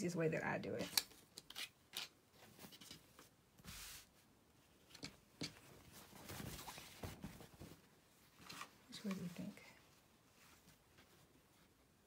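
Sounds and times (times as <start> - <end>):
fabric rustling: 2.3 - 12.0.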